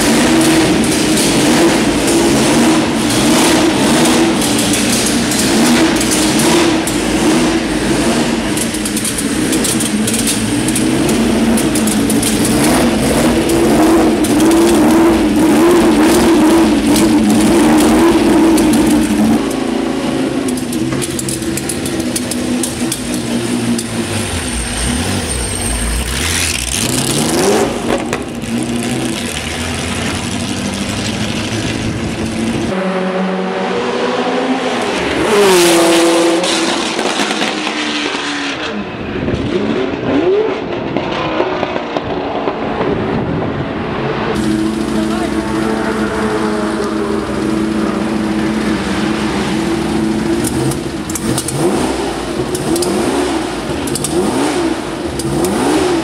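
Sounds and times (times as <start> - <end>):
racing car accelerating: 0.0 - 56.0
racing engine idling and revving: 0.0 - 56.0.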